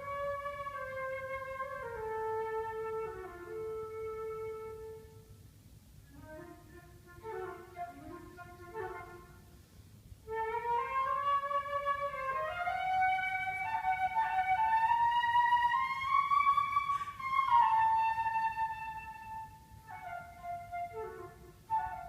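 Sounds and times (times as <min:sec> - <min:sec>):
solo flute playing: 0:00.0 - 0:05.4, 0:06.0 - 0:09.6, 0:10.2 - 0:22.0.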